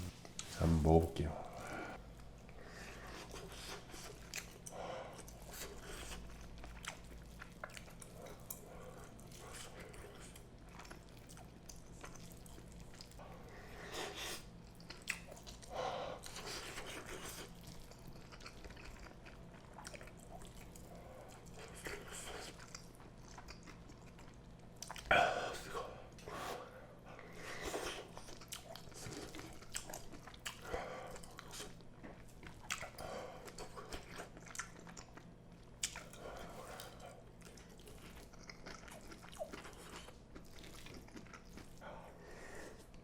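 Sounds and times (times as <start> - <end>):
chewing and eating: 0.0 - 43.0.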